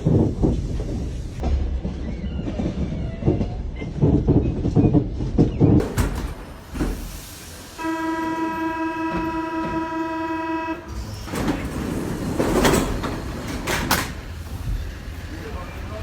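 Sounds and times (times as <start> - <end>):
train moving noise: 0.0 - 16.0.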